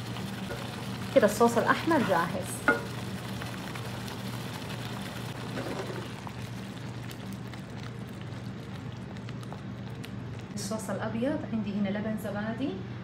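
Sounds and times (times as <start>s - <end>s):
sauce sizzling and popping: 0.0s - 10.6s
low steady hum: 0.0s - 13.0s.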